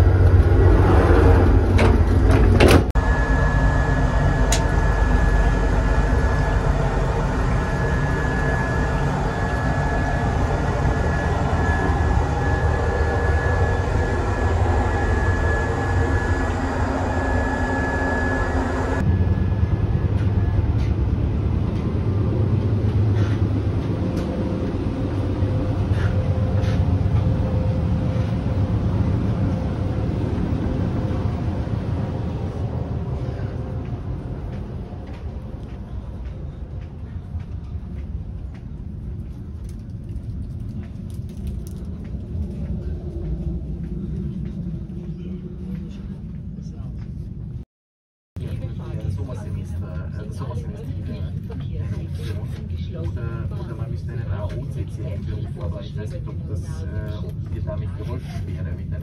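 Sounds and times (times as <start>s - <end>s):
train running rumble: 0.0s - 47.6s.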